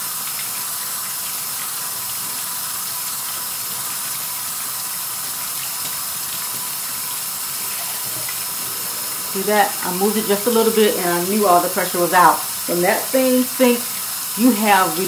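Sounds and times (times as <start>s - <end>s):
tap water running onto metal lid: 0.0s - 15.0s.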